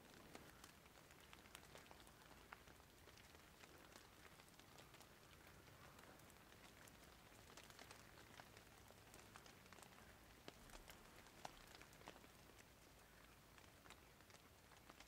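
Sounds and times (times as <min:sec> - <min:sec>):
faint hiss: 0:00.0 - 0:15.0
small ticks: 0:00.0 - 0:15.0.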